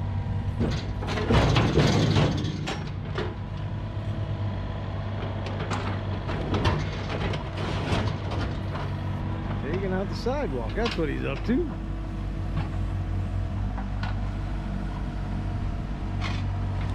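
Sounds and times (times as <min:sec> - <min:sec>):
excavator diesel engine running: 0:00.0 - 0:16.9.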